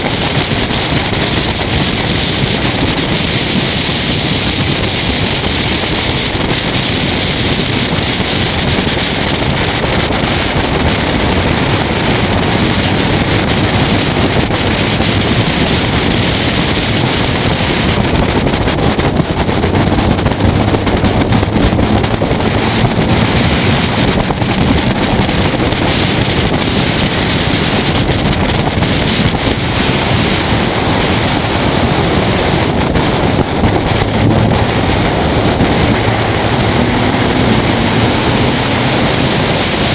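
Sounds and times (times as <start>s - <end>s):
race car engine running: 0.0s - 39.9s
wind rushing over microphone: 0.0s - 39.9s.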